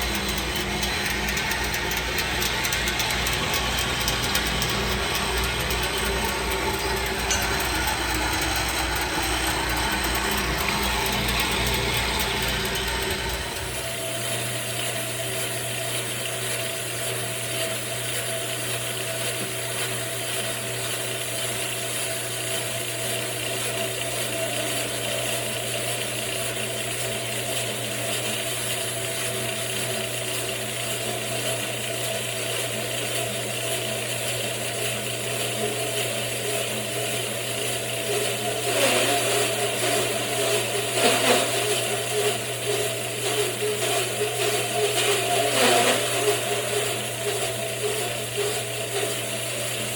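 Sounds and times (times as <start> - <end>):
bandsaw mill humming: 0.0 - 49.9.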